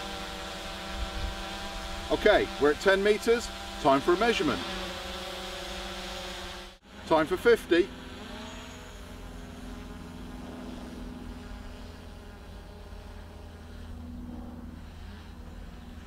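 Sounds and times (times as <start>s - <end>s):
drone propeller buzz: 0.0s - 16.0s.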